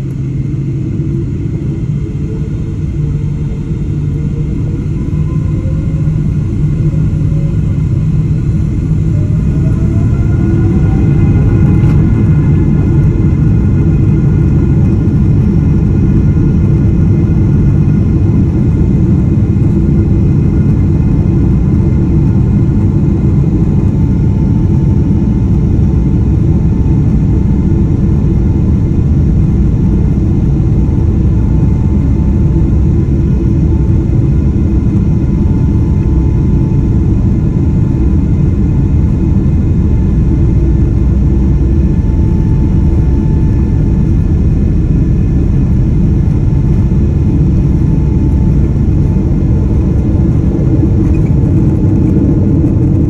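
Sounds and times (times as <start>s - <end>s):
faint engine whine: 0.0s - 53.0s
jet engines rumbling in cabin: 0.0s - 53.0s.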